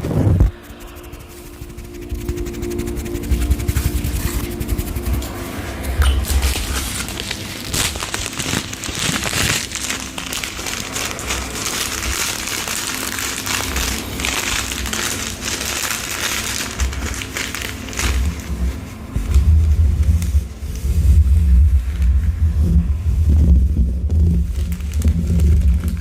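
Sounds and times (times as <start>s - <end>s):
crinkling and crackling: 0.0s - 26.0s.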